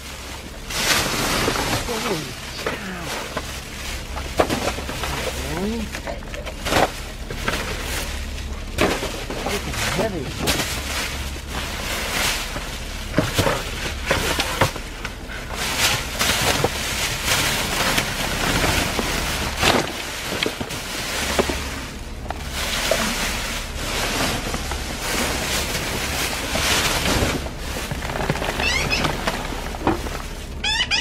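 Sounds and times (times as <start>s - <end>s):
plastic trash bags rustling: 0.0s - 31.0s
knocks and clatters of items: 0.7s - 30.8s.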